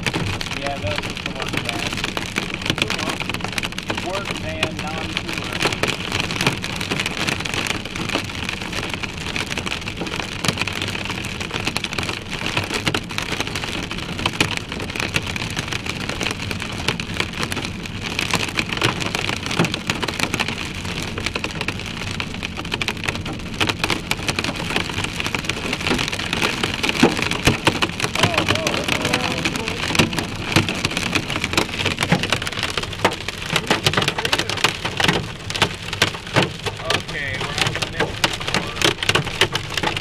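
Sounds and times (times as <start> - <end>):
heavy rain on car roof: 0.0 - 40.0
tyre and road noise: 0.0 - 40.0.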